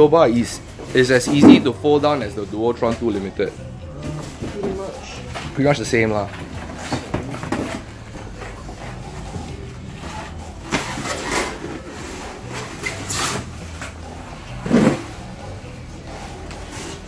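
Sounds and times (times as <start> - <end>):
knocks scrapes and rustles: 0.4 - 17.0.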